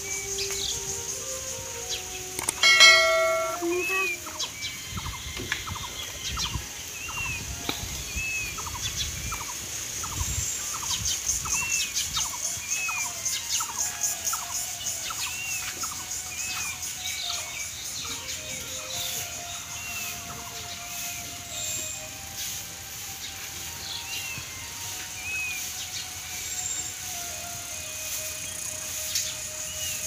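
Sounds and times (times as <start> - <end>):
birds calling with falling notes: 0.0 - 30.0.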